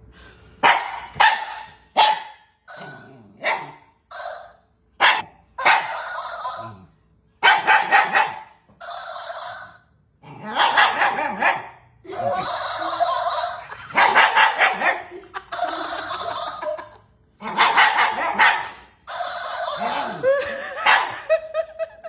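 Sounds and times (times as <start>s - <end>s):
dog barking and yowling: 0.6s - 9.8s, 10.4s - 15.8s, 17.4s - 21.7s.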